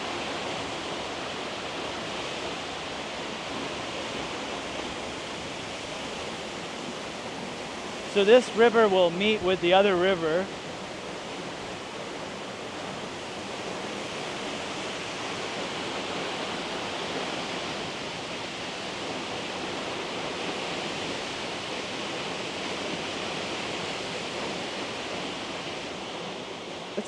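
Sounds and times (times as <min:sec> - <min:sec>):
river and waterfall rushing: 0:00.0 - 0:27.0.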